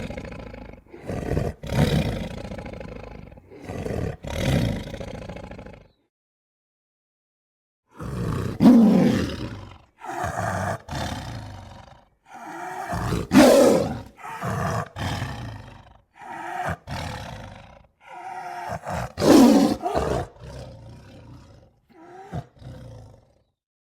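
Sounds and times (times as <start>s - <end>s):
lion grunts: 0.0s - 6.0s, 8.0s - 23.5s
lion roars: 0.0s - 6.0s, 7.9s - 23.5s.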